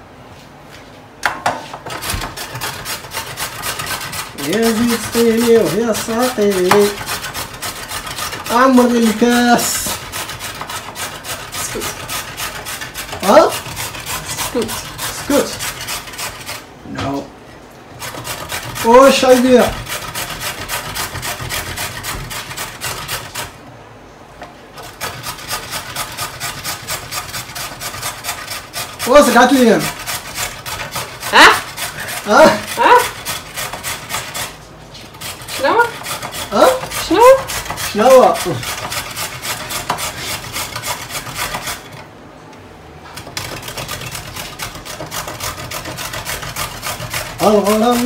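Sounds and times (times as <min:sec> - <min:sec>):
vegetable grating on metal grater: 0:01.8 - 0:17.2, 0:18.0 - 0:23.6, 0:24.8 - 0:42.1, 0:43.2 - 0:48.0.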